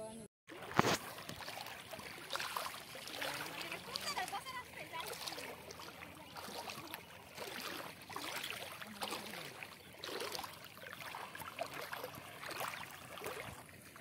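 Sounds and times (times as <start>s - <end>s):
water lapping and splashing: 0.5s - 14.0s.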